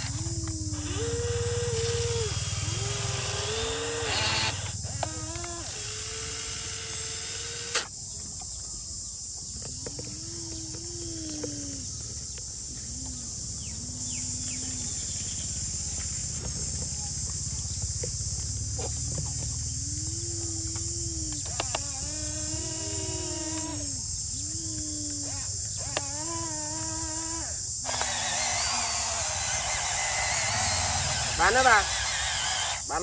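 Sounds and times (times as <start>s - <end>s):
small electric motors whining: 0.0s - 7.9s, 9.8s - 33.0s.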